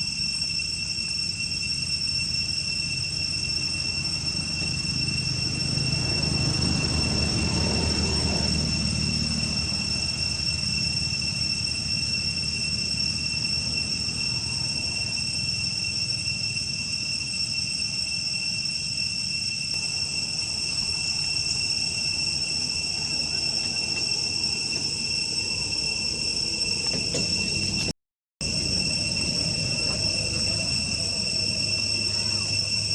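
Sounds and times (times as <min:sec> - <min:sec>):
insect chorus drone: 0:00.0 - 0:32.9.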